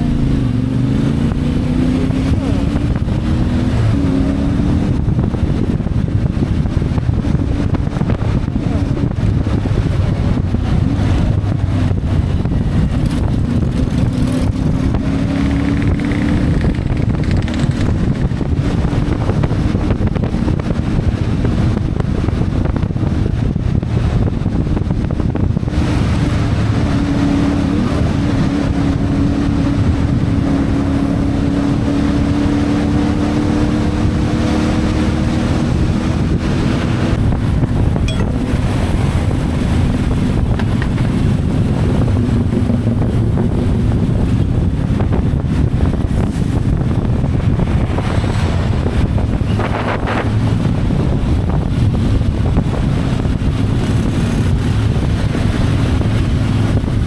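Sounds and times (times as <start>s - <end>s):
motorcycle engine running: 0.0s - 25.7s, 35.5s - 57.0s
wind buffeting microphone: 0.0s - 57.0s.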